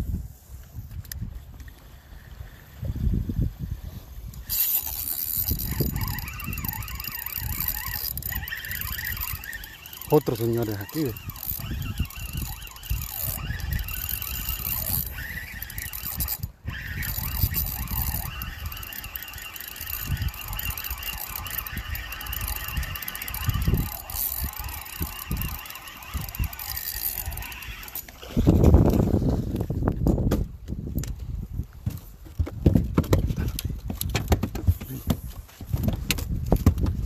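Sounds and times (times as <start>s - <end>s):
wind buffeting microphone: 2.7s - 37.0s.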